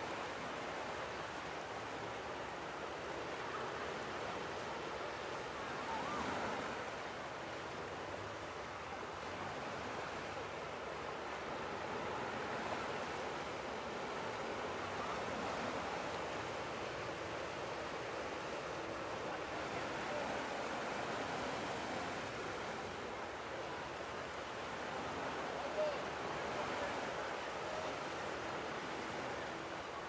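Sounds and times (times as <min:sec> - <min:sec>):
ocean waves on beach: 0:00.0 - 0:30.0.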